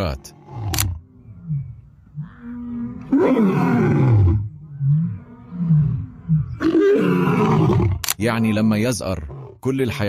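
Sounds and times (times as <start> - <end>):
lion roaring: 0.0 - 8.0, 9.1 - 9.6.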